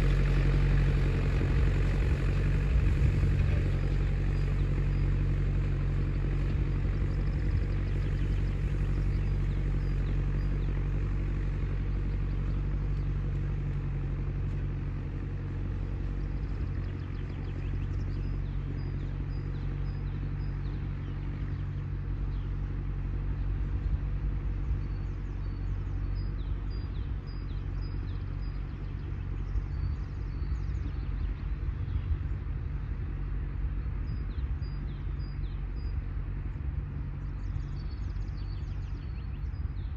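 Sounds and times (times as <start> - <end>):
small birds chirping: 0.0 - 39.9
tractor diesel engine droning: 0.0 - 39.9.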